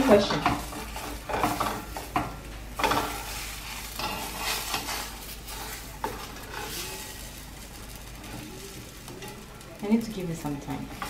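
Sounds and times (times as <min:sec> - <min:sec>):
spatula scraping frying pan: 0:00.0 - 0:09.5
batter sizzling: 0:00.0 - 0:11.0.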